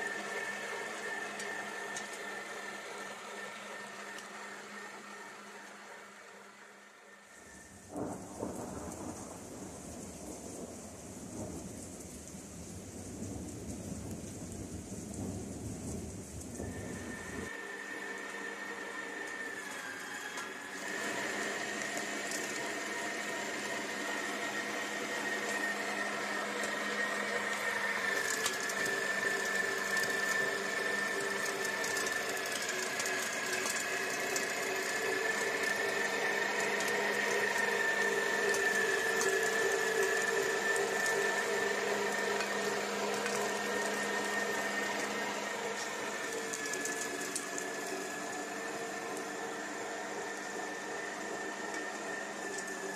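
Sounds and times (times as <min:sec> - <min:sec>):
electric meat grinder whining: 0:00.0 - 0:10.6, 0:13.2 - 0:52.9.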